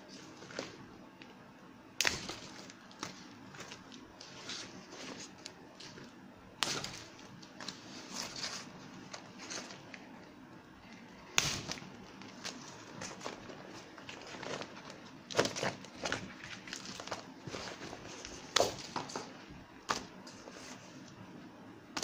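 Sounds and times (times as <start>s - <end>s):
vinyl crinkling and tearing: 2.0s - 21.1s.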